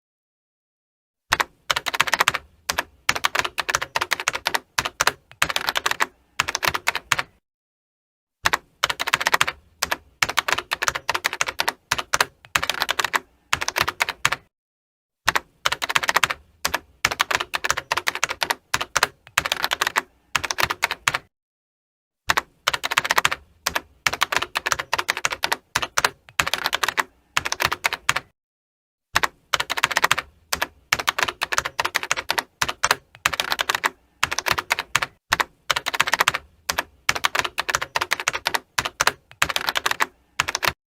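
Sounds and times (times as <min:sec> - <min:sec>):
typing on computer keyboard: 0:01.3 - 0:07.4, 0:08.4 - 0:14.5, 0:15.3 - 0:21.3, 0:22.3 - 0:28.3, 0:29.2 - 0:40.8.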